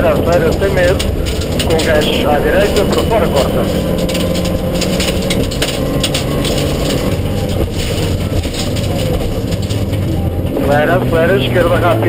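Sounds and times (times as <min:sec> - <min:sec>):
car engine running hard: 0:00.0 - 0:12.0
road and tyre noise: 0:00.0 - 0:12.0
sharp knocks and rattles: 0:00.0 - 0:12.0.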